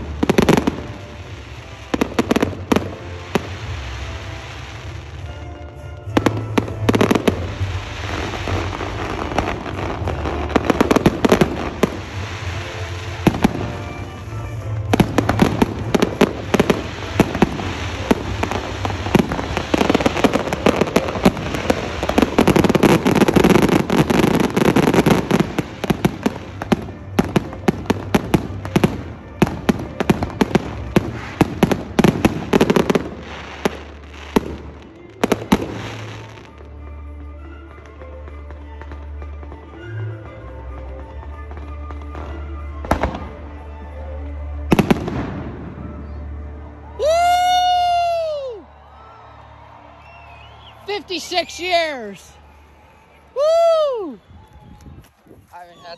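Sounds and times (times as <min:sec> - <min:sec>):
fireworks bangs and crackling: 0:00.0 - 0:36.8, 0:37.4 - 0:43.8, 0:44.6 - 0:46.4.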